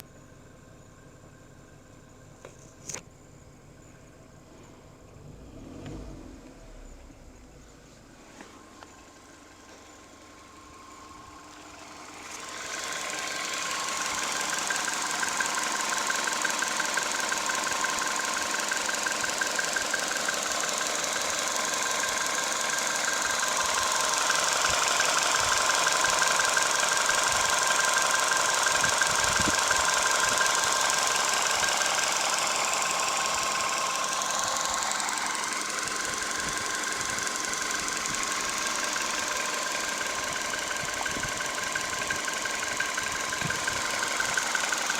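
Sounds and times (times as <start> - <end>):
car engine knocking: 8.5 - 44.9.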